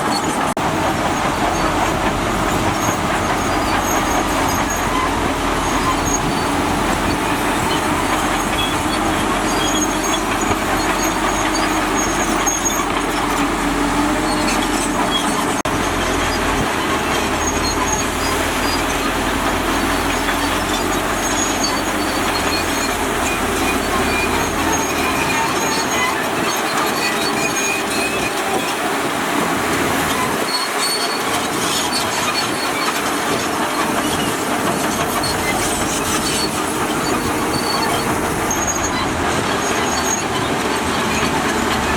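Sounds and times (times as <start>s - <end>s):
bulldozer diesel engine: 0.0s - 41.9s
steel tracks grinding: 0.0s - 41.9s.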